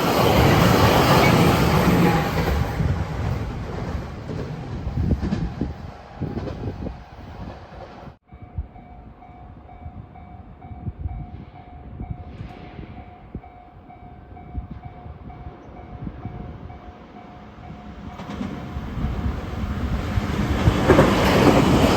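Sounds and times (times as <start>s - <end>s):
train rail rumble: 0.0s - 21.9s.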